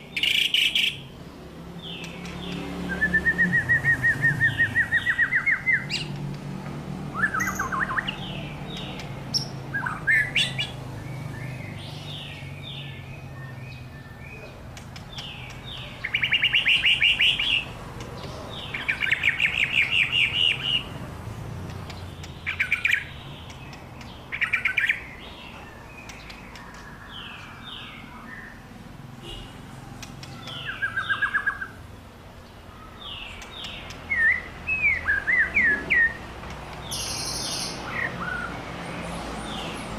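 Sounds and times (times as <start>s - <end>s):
bird singing rapid repeated notes: 0.0s - 39.9s.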